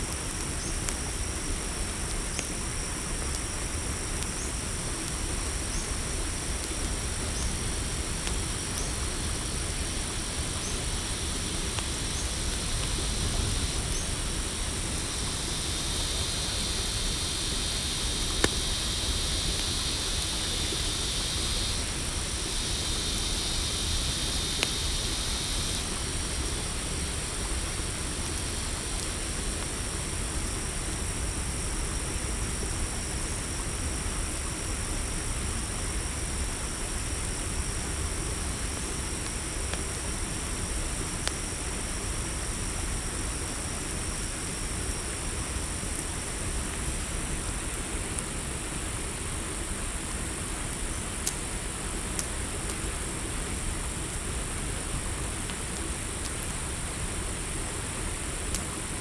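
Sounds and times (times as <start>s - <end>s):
campfire popping: 0.0s - 59.0s
crickets trilling: 0.0s - 59.0s
dense insect buzz: 0.0s - 59.0s.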